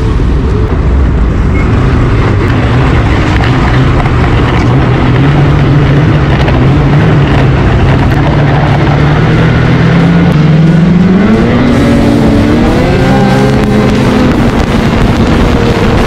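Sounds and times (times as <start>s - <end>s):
snowmobile engine running: 1.8s - 16.0s.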